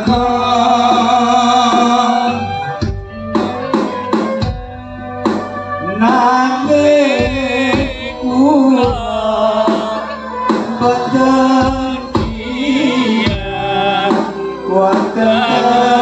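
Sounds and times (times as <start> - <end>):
person singing: 0.0 - 2.8, 5.8 - 16.0
drum strokes: 0.0 - 16.0.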